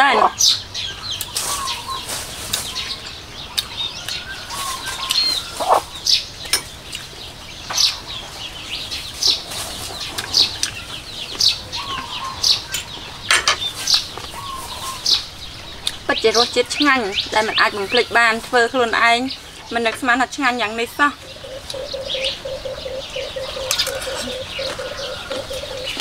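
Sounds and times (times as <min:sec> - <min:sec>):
small birds chirping: 0:00.0 - 0:26.0
hen clucking: 0:01.2 - 0:06.0, 0:09.3 - 0:26.0.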